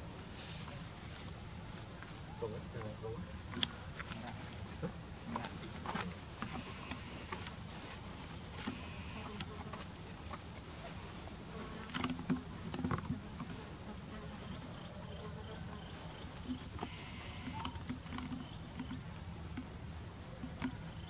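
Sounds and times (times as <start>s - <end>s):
insects buzzing: 0.0s - 21.0s
lower insect buzz: 0.3s - 21.0s.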